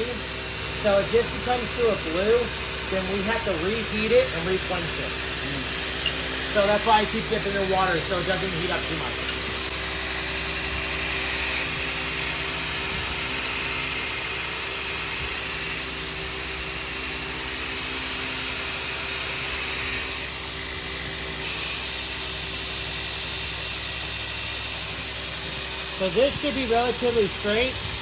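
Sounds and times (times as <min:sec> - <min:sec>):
grinder grinding steel blade: 0:00.0 - 0:28.0.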